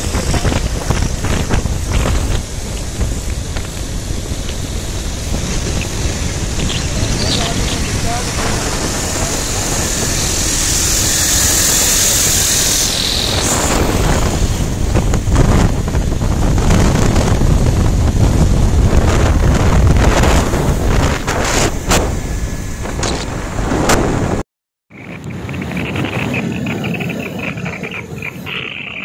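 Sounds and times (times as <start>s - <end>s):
wind buffeting microphone: 0.0s - 24.4s, 25.0s - 29.0s
road and engine rumble: 0.0s - 29.0s.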